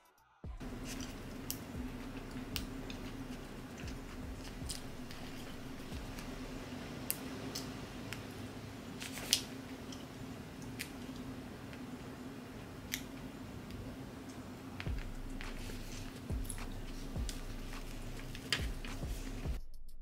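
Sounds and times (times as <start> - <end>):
steady low hum: 0.4 - 20.0
vinyl film crackling as peeled: 0.6 - 12.0, 14.8 - 19.5.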